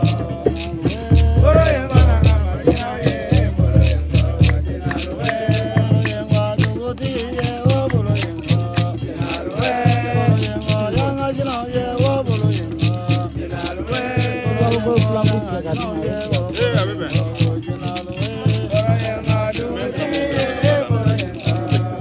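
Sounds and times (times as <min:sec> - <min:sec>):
low drum beat: 0:00.0 - 0:22.0
person singing: 0:00.0 - 0:22.0
shaken rattles: 0:00.0 - 0:22.0.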